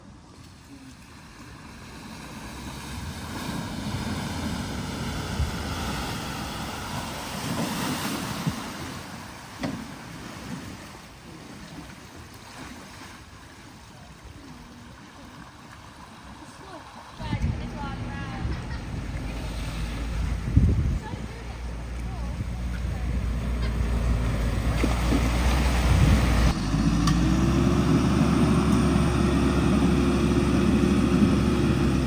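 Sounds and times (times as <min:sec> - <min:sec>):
floodwater surging and splashing: 0:00.1 - 0:32.0.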